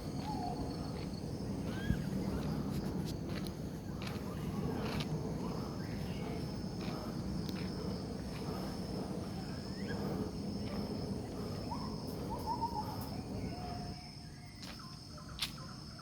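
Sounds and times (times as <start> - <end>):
low rumbling background: 0.0 - 14.0
high insect drone: 0.0 - 16.0.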